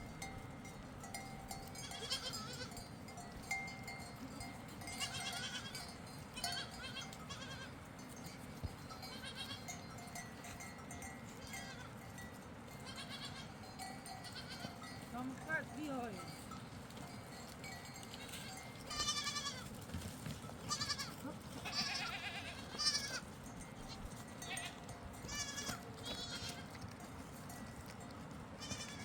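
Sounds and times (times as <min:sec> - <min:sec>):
goats and sheep bleating: 0:01.1 - 0:02.9, 0:04.1 - 0:07.9, 0:09.0 - 0:10.6, 0:11.3 - 0:12.0, 0:12.8 - 0:16.9, 0:17.6 - 0:29.0.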